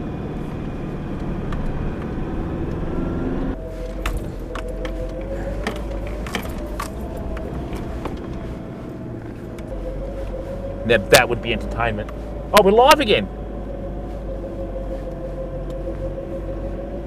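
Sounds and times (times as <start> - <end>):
engine and tyre rumble: 0.0 - 17.0
steady whine: 0.0 - 17.0.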